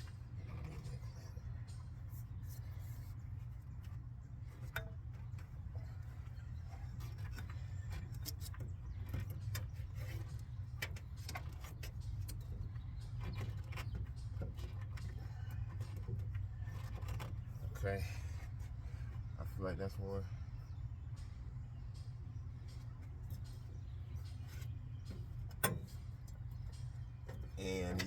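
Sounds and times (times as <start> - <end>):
light metallic rattles: 0.0 - 20.3, 21.1 - 28.0
steady low hum: 0.0 - 28.0.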